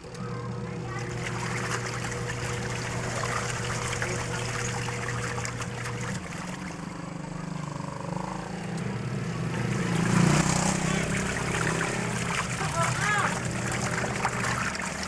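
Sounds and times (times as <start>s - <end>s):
electrical hum: 0.0s - 15.0s
water splashing in washing machine: 0.0s - 15.0s.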